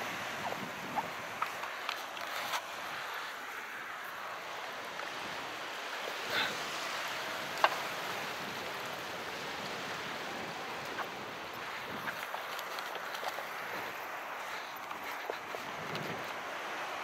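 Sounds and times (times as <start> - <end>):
calm sea washing: 0.0 - 17.0.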